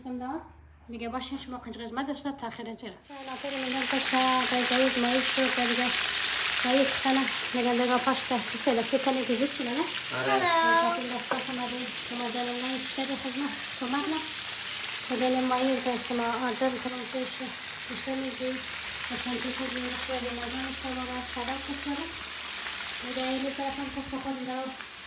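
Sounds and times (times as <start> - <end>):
fish sizzling in oil: 3.1 - 25.0.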